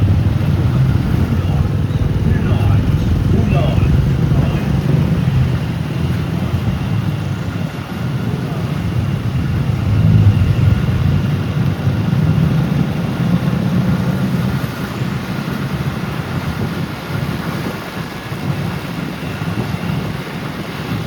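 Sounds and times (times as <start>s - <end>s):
road traffic engines rumbling: 0.0s - 21.0s.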